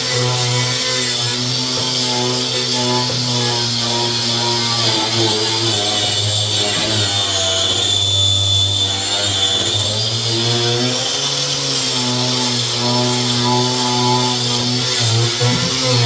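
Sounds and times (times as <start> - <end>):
electric sander whining: 0.0 - 16.0.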